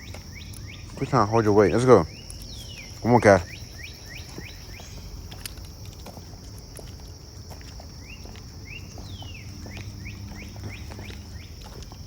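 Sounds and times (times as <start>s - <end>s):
high insect drone: 0.0s - 12.0s
light footsteps: 0.0s - 12.0s
songbird chirping: 0.0s - 12.0s.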